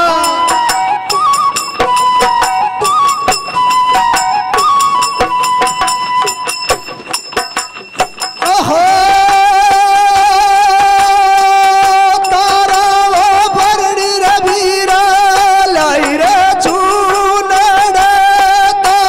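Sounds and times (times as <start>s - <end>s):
flute tone: 0.0s - 19.0s
frame drums beating: 0.0s - 19.0s.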